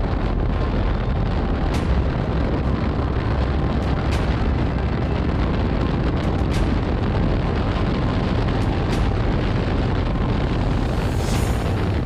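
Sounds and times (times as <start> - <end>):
motorcycle running: 0.0 - 12.0
wind buffeting a camera: 0.0 - 12.0.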